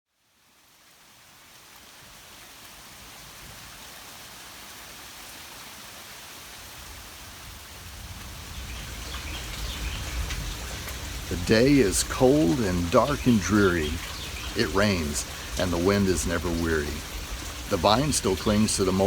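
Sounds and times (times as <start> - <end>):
rain falling: 0.1 - 19.0.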